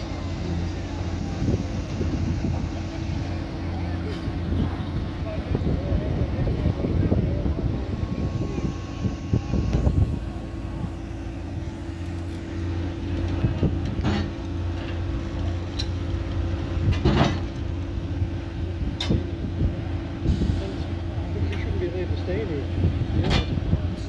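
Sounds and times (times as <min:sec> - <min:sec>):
large engine idling: 0:00.0 - 0:24.0.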